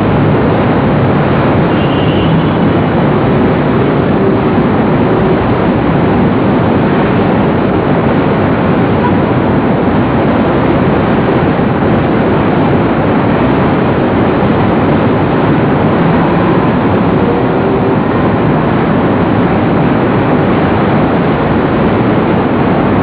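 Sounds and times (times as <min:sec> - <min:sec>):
heavy city traffic: 0:00.0 - 0:23.0.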